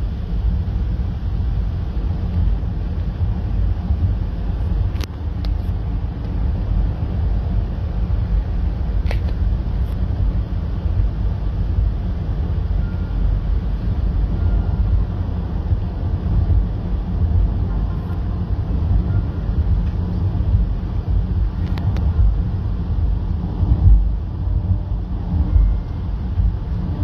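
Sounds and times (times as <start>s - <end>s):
car cabin road rumble: 0.0s - 27.0s.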